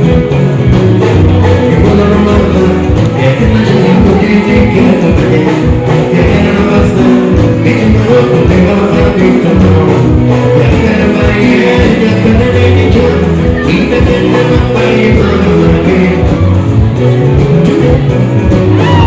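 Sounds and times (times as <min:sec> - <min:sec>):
driving drum beat: 0:00.0 - 0:19.0
live band music: 0:00.0 - 0:19.0
person singing: 0:00.0 - 0:19.0.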